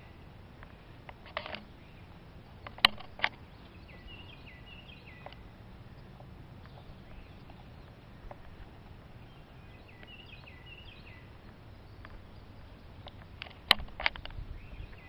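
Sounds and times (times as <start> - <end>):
distant bird singing: 0.0 - 15.0
low outdoor rumble: 0.0 - 15.0.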